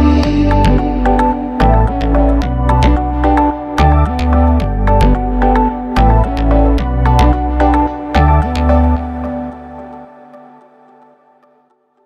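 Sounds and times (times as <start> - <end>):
electronic background music: 0.0 - 12.0.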